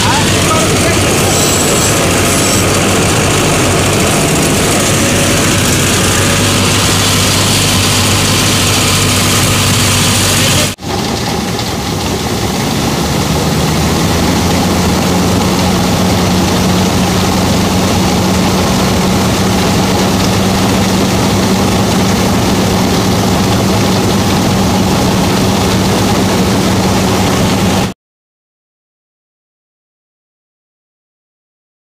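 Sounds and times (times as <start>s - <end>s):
tractor and harvester droning: 0.0s - 27.9s.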